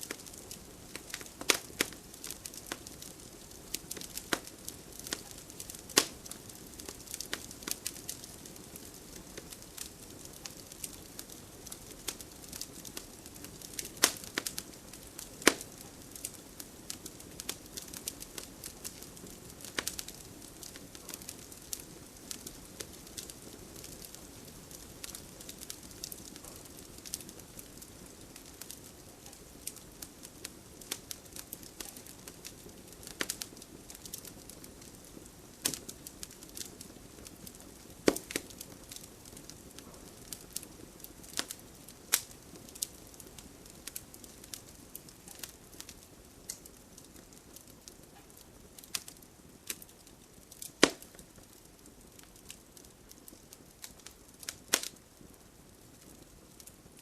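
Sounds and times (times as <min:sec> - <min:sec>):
fireplace fire crackling: 0:00.0 - 0:57.0
low hiss of fire: 0:00.0 - 0:57.0
sharp pops from fire: 0:00.0 - 0:57.0.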